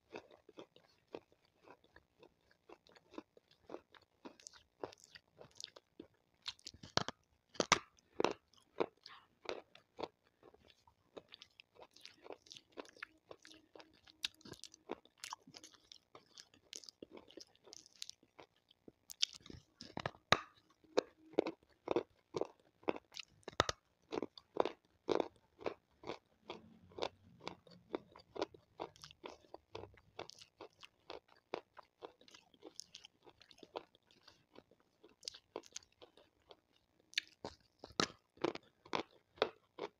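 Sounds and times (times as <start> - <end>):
crunching and chewing stone: 0.0 - 39.9.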